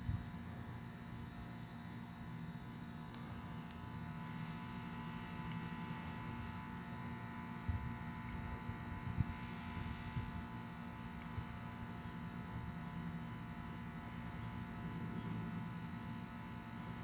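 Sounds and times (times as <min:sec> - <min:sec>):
electrical hum with tones: 0:00.0 - 0:17.0.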